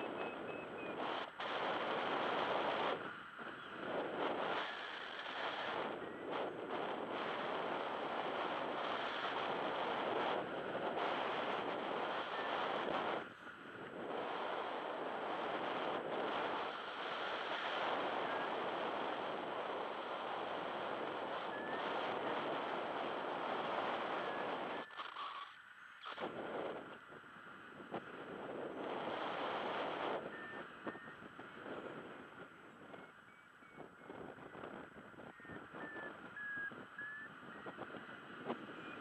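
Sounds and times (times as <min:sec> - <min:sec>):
wind blowing across microphone: 0:00.0 - 0:39.0.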